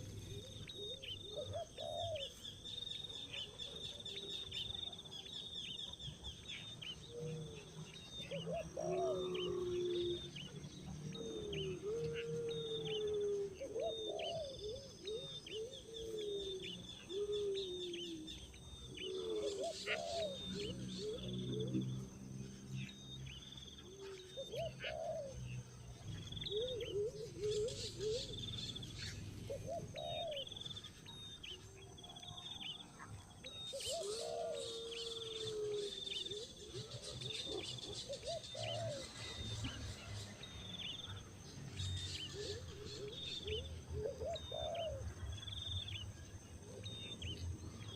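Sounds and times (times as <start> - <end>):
birds cooing: 0.0 - 47.9.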